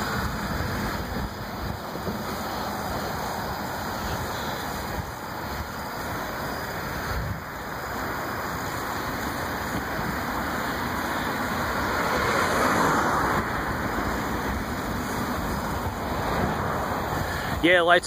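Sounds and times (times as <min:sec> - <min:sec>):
wind on microphone: 0:00.0 - 0:17.8.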